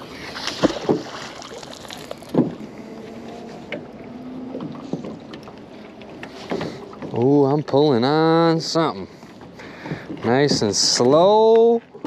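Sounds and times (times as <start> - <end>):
knocks and thumps on a boat: 0.0 - 12.0.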